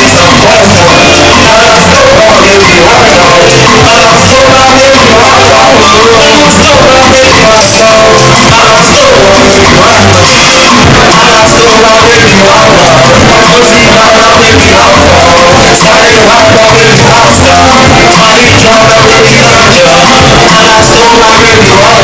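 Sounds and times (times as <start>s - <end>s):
band with heavy bass: 0.0s - 22.0s
person singing: 0.0s - 22.0s.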